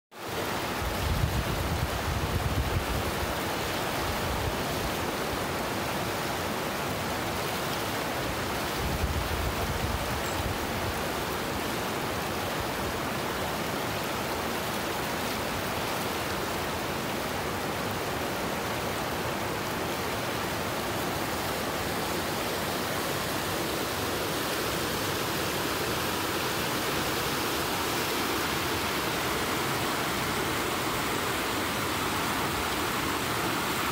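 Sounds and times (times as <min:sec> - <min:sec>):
river rapids rushing over rock: 0:00.2 - 0:33.9.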